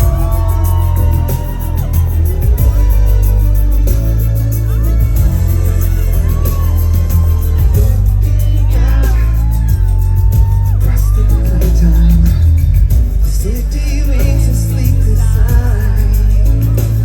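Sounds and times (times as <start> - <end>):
crowd whooping and shouting: 0.0 - 17.0
live pop band with heavy bass: 0.0 - 17.0
person singing: 0.0 - 17.0.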